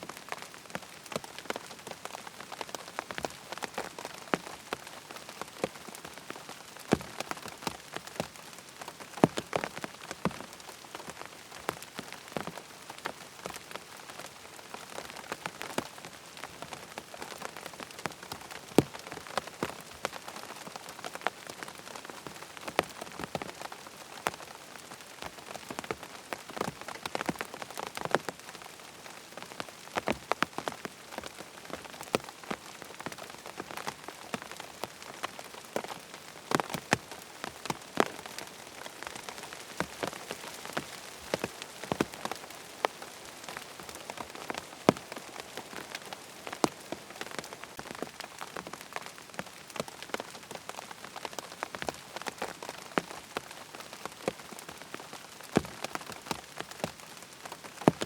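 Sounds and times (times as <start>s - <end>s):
rain pattering on a tent: 0.0s - 58.0s.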